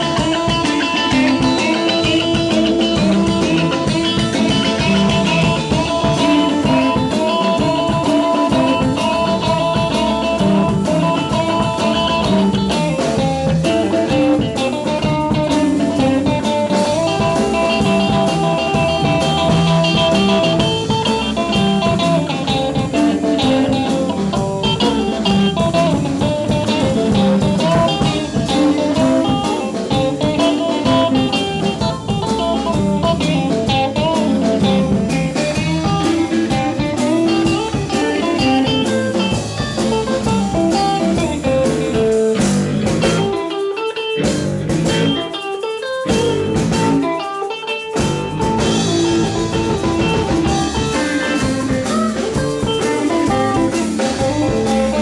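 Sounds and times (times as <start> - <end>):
blues-rock band playing: 0.0 - 55.0
electric guitar lead melody: 0.0 - 55.0.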